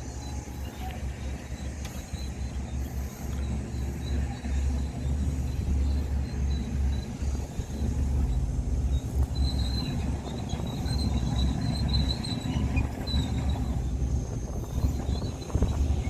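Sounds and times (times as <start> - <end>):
bulldozer diesel engine under load: 0.0 - 16.0
steel crawler tracks squealing: 0.0 - 16.0.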